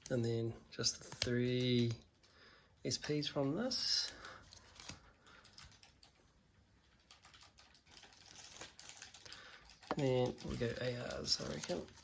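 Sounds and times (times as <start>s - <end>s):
trading cards clicking and rustling: 0.0s - 2.4s, 3.0s - 6.1s, 7.0s - 12.0s.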